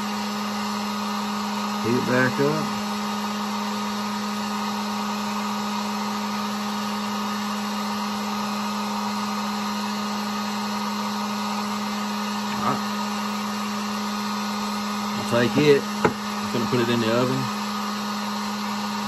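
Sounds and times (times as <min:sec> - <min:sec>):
heat gun fan humming: 0:00.0 - 0:19.0.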